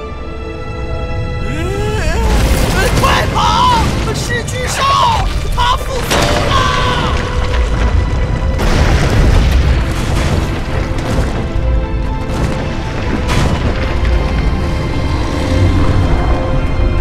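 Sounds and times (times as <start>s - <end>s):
dramatic music: 0.0s - 17.0s
deep rumbling: 0.4s - 17.0s
heavy booms of rock bursting: 1.8s - 16.8s.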